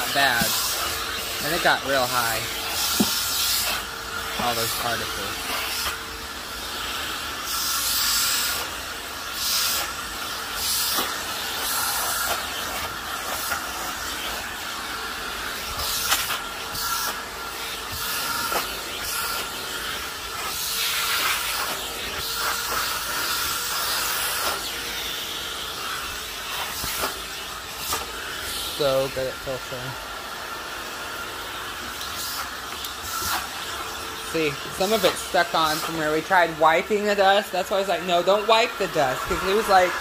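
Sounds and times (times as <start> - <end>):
vacuum brush air hiss: 0.0 - 40.0
vacuum motor whine: 0.0 - 40.0.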